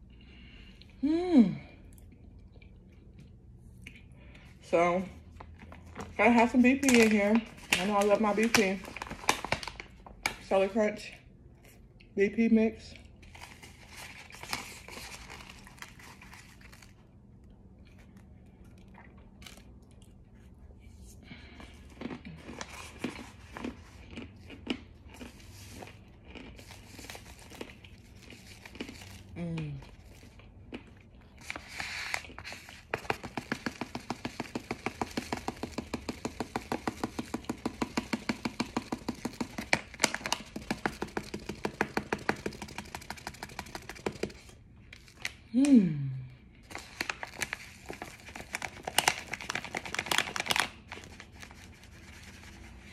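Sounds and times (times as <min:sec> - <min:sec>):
powder mix crackling and crunching: 0:02.0 - 0:45.7, 0:46.5 - 0:52.9.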